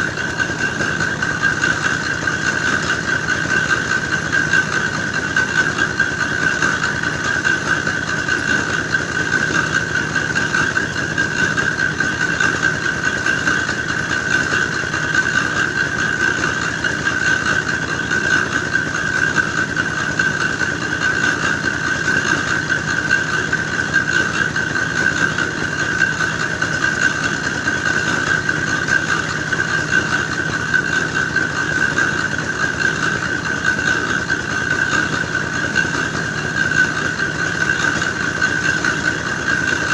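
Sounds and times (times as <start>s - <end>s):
grinding machine running: 0.0s - 39.9s.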